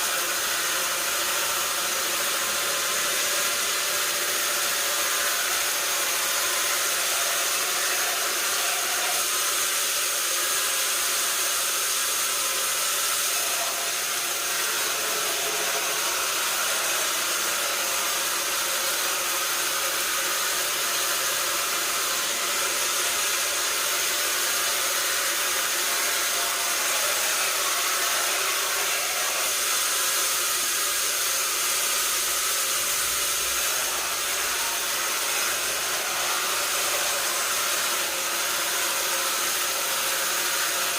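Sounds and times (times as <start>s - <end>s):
sawmill machinery whirring: 0.0s - 40.9s.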